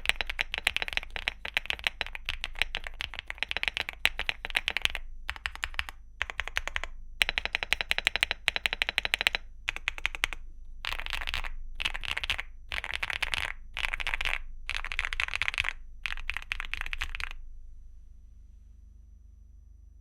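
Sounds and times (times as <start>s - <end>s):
mechanical keyboard typing: 0.0s - 17.4s.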